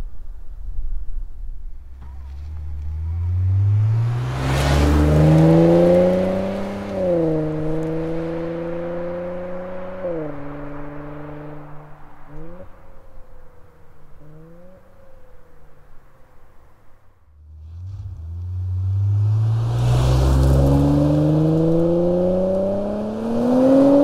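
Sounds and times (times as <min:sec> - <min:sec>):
car engine accelerating: 0:01.8 - 0:24.0.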